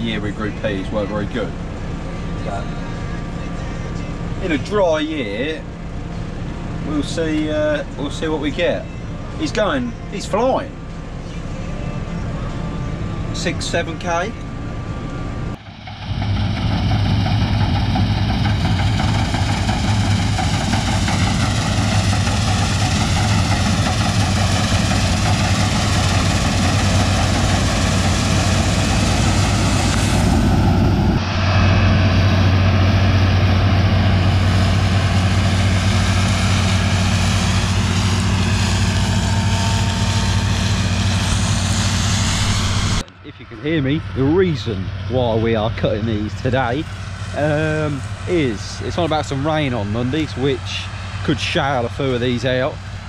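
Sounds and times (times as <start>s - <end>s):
combine harvester machinery drone: 0.0s - 53.0s.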